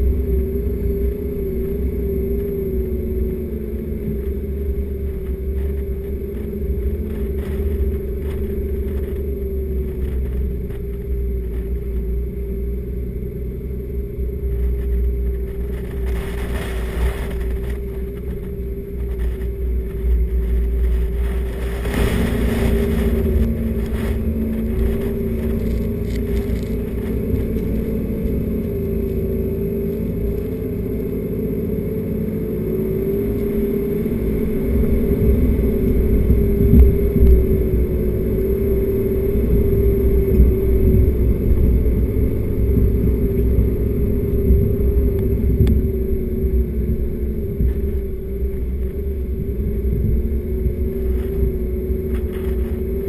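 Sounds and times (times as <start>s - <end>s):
vehicle engine under load: 0.0s - 53.0s.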